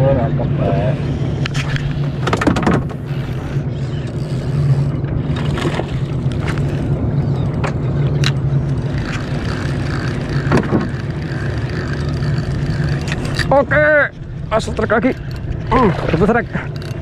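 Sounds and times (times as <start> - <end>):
boat engine running steadily: 0.0 - 17.0.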